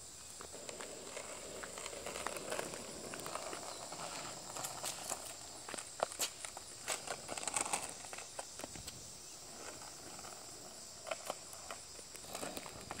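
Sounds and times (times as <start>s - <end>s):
faint insect hum: 0.0s - 13.0s
skateboard rolling over asphalt: 0.0s - 13.0s
shoe pushing off road: 0.4s - 13.0s.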